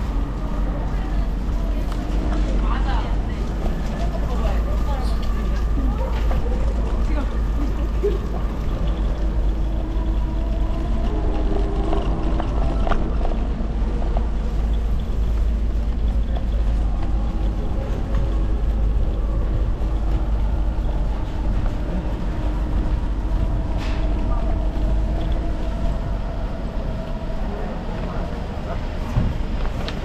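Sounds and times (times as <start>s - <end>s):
low wind rumble on microphone: 0.0s - 30.0s.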